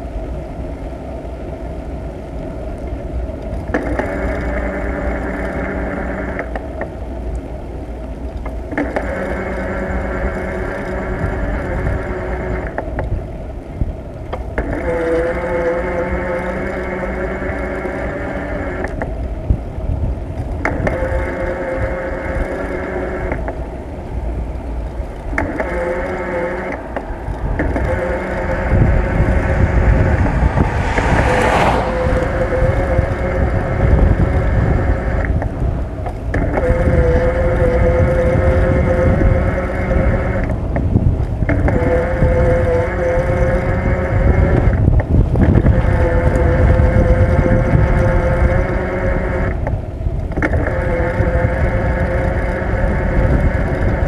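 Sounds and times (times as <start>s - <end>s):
bicycle mechanical whine: 0.0s - 54.0s
wind rumble on microphone: 0.0s - 54.0s.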